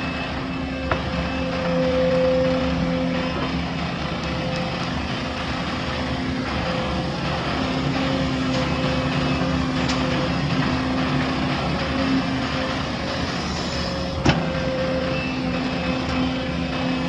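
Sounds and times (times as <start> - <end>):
diesel machinery engine running: 0.0 - 17.0.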